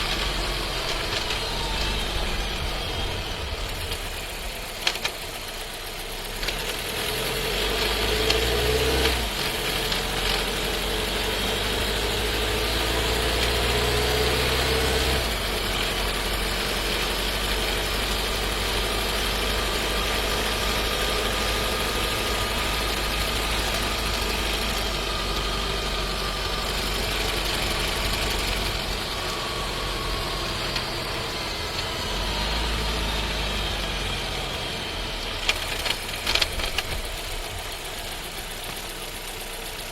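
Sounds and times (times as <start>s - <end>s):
car engine and running noise: 0.0s - 39.9s
loud gearbox downshift: 0.0s - 39.9s.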